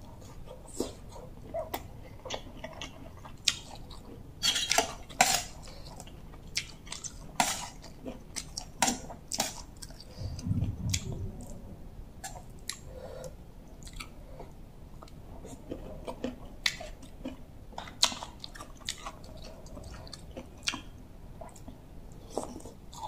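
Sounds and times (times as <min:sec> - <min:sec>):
close-up chewing: 0:00.0 - 0:11.6, 0:12.2 - 0:23.0.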